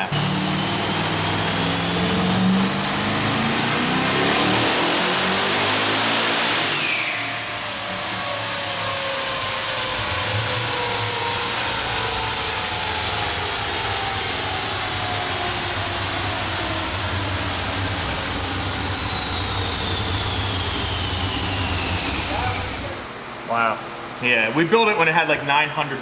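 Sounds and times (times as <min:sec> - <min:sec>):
low hum: 0:00.0 - 0:06.2, 0:07.4 - 0:23.1
high-pitched mechanical whine: 0:00.0 - 0:23.1.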